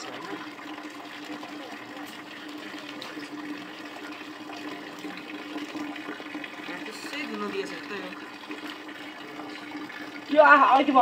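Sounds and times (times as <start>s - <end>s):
tap water splashing on concrete: 0.0s - 11.0s.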